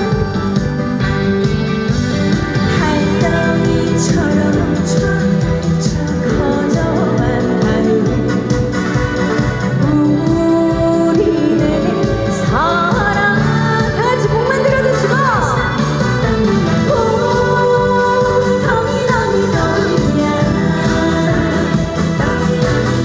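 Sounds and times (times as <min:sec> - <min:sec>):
amplified band accompaniment: 0:00.0 - 0:23.0
woman singing: 0:00.0 - 0:23.0.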